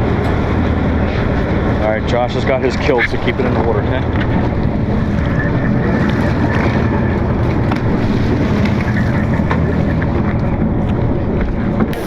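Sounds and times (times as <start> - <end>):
boat engine humming: 0.0 - 12.0
water washing along hull: 0.0 - 12.0
wind buffeting microphone: 0.0 - 12.0.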